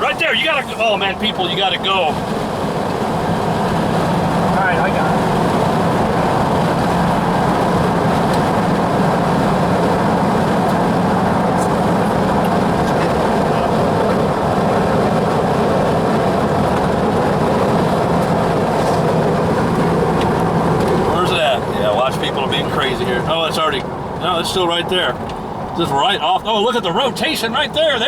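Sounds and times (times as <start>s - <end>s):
vehicle cabin tyre and engine rumble: 0.0s - 28.0s.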